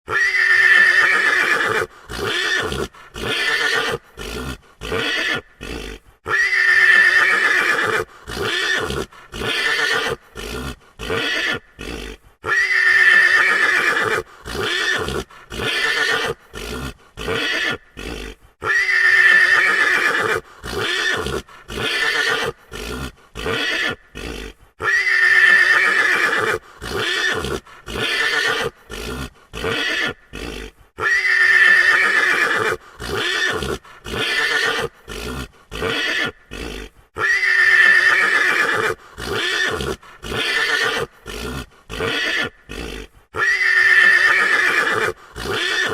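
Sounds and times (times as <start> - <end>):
horse whinnying: 0.1 - 45.9.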